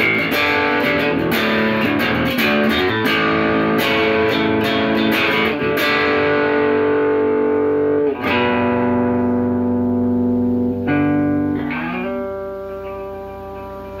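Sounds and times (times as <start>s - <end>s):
electric bass plucked notes: 0.0s - 14.0s.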